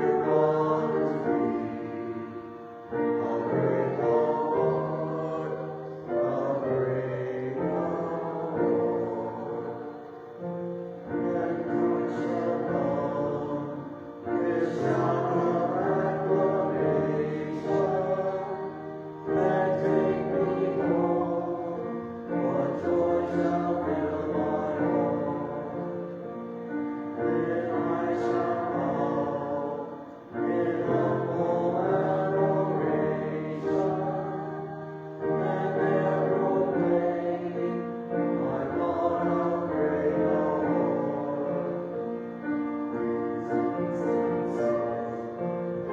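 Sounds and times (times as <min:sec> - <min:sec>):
choir singing a hymn: 0:00.0 - 0:45.9.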